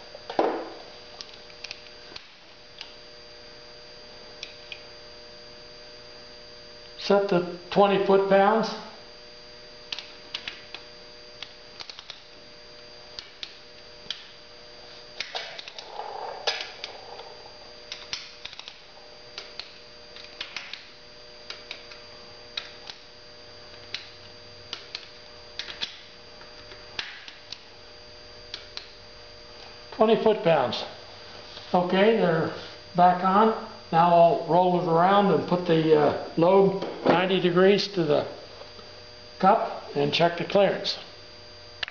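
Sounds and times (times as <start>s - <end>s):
steady electrical hum: 0.0s - 41.9s.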